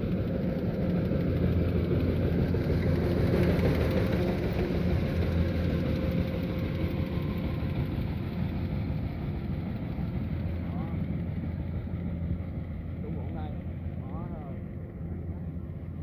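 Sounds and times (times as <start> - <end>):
harvester engine droning: 0.0 - 16.0.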